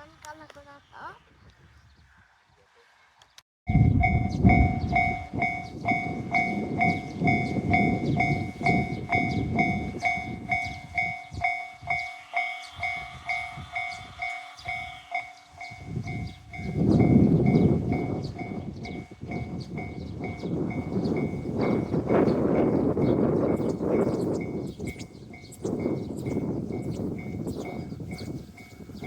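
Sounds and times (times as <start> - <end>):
train rumbling past: 3.7 - 29.0
two-tone crossing bell clanging: 3.7 - 29.0.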